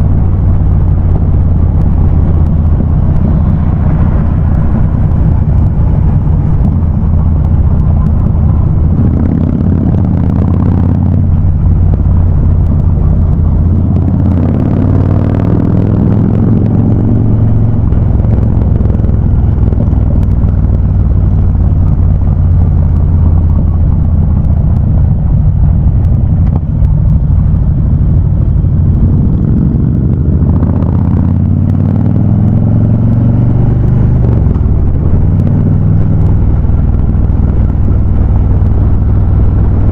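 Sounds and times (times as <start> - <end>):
motorcycle engines rumbling: 0.0 - 39.9.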